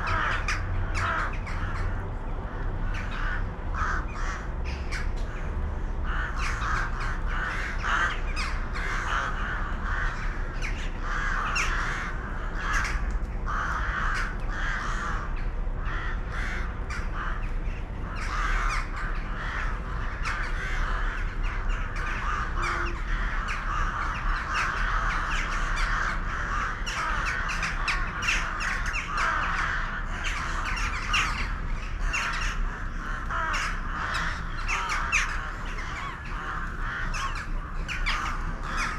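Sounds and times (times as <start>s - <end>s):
flock of birds calling: 0.0s - 38.9s
steady low rumble: 0.0s - 38.9s.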